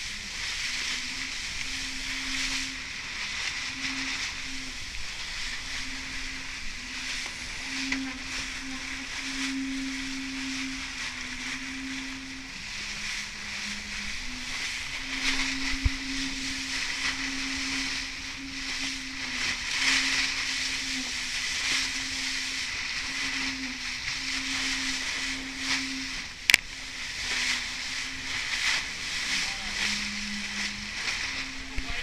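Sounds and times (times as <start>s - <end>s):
low steady hum: 0.0s - 32.0s
water rushing along hull: 0.0s - 32.0s
wind buffeting microphone: 0.0s - 32.0s.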